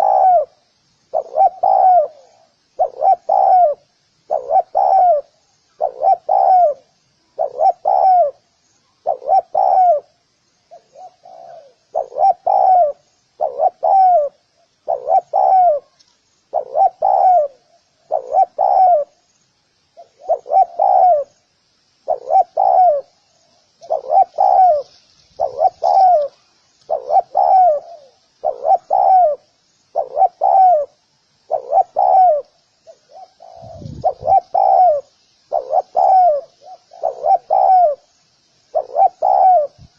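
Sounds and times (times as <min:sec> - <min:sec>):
dove cooing: 0:00.0 - 0:19.2, 0:20.0 - 0:21.4, 0:22.0 - 0:39.9
small birds chirping: 0:00.0 - 0:39.9.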